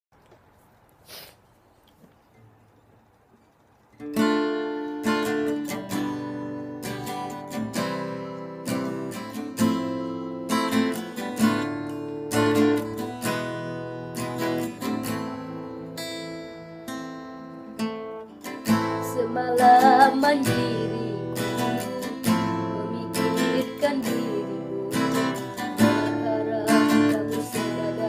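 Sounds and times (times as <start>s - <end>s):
acoustic guitar strumming chords: 4.0s - 28.0s.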